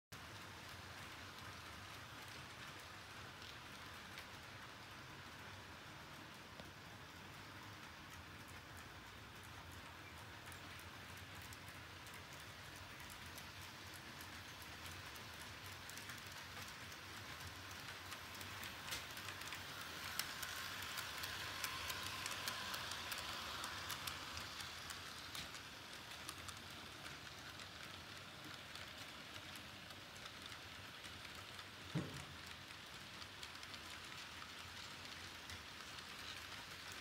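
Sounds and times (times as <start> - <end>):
model train rolling on track: 0.1 - 37.0.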